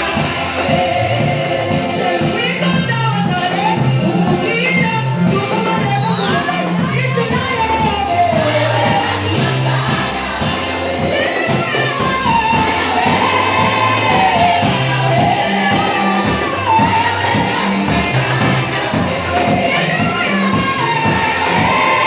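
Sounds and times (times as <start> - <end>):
band playing gospel music: 0.0 - 22.0
bass line: 0.0 - 22.0
group of voices singing: 0.0 - 22.0
steady drum beat: 0.0 - 22.0.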